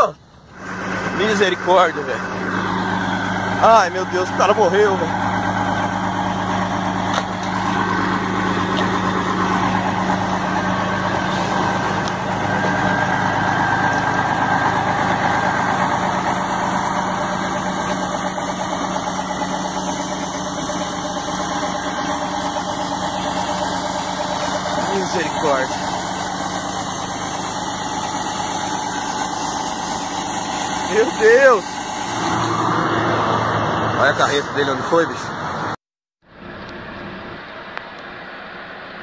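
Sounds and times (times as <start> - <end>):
vehicle engine idling: 0.0 - 35.5.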